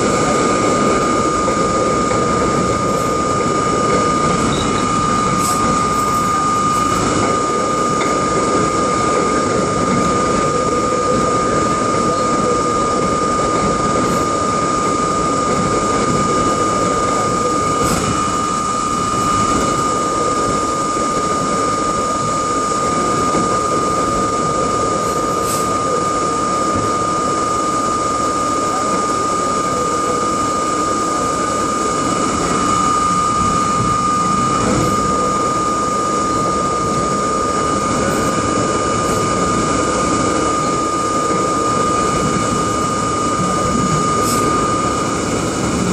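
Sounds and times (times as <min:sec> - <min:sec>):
steady high-pitched tone: 0:00.0 - 0:45.9
subway train rolling rumble: 0:00.0 - 0:45.9.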